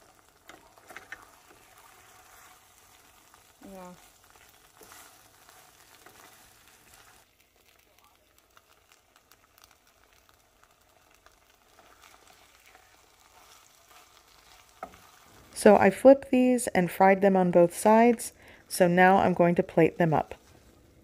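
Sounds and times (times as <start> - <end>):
tortillas sizzling in oil: 0.0 - 21.0.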